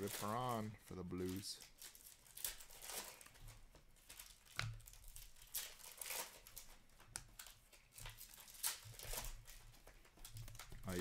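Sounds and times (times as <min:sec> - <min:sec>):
cards scraping and rustling: 0:00.0 - 0:11.0.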